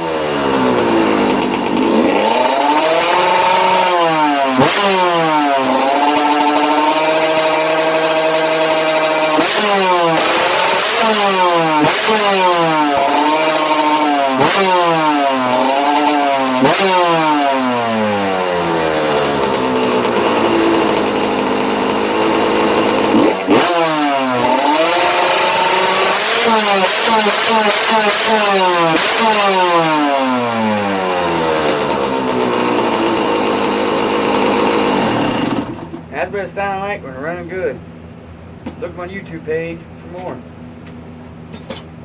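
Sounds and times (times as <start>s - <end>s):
motorcycle engine revving: 0.0s - 36.2s.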